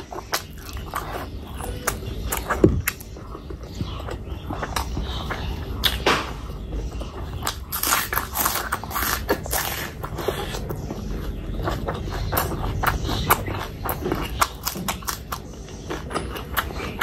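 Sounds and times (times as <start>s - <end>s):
crunchy chewing: 0.0s - 17.0s.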